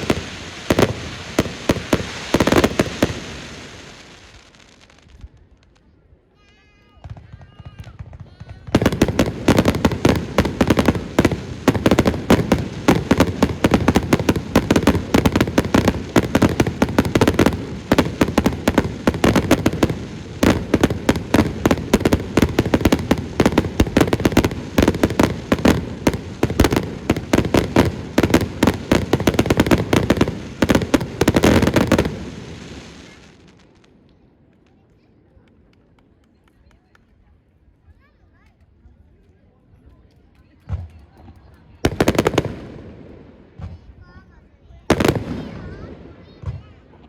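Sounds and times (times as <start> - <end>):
fireworks bangs and crackles: 0.0 - 5.9, 6.5 - 37.2, 40.0 - 47.0.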